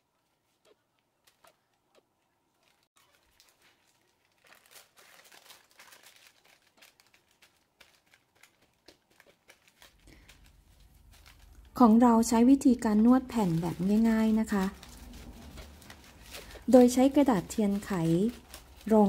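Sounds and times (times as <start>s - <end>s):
baking paper crinkling: 2.4s - 19.0s.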